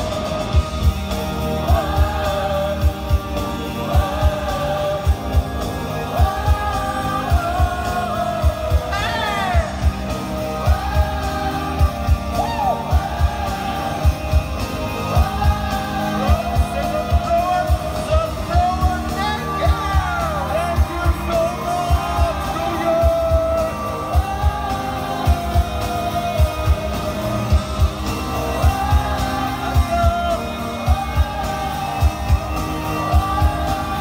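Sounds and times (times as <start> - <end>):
fans screaming and whooping: 0.0 - 34.0
live pop music: 0.0 - 34.0.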